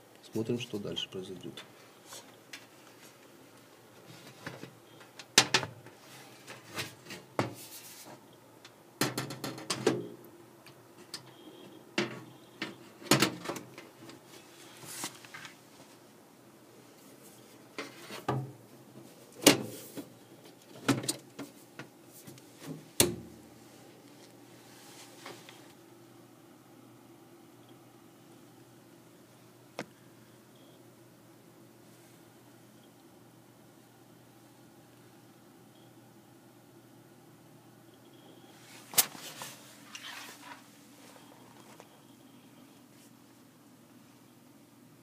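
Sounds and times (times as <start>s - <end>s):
computer fans humming: 0.0s - 45.0s.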